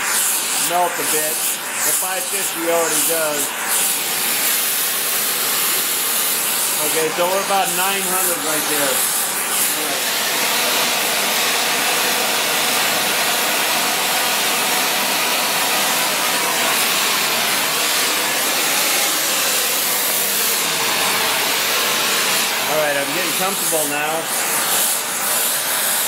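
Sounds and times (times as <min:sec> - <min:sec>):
welding torch flame hissing: 0:00.0 - 0:26.0.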